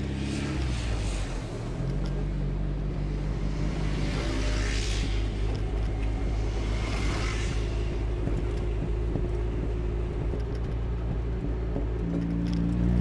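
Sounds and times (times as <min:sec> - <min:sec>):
car engine droning while driving: 0:00.0 - 0:13.0.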